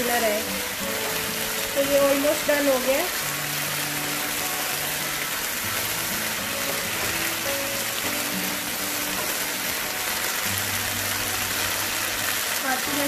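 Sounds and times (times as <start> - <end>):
chicken sizzling in oil: 0.0 - 13.0
soft background music: 0.0 - 13.0.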